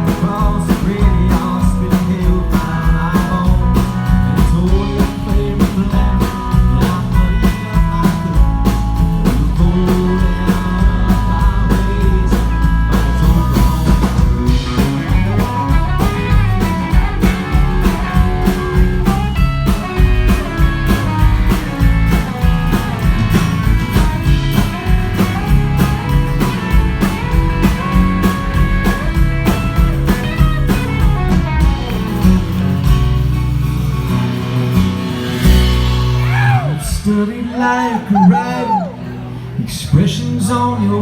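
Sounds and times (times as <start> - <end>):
steady drum beat: 0.0 - 36.8
bass guitar: 0.0 - 41.0
lead guitar melody: 2.6 - 36.6.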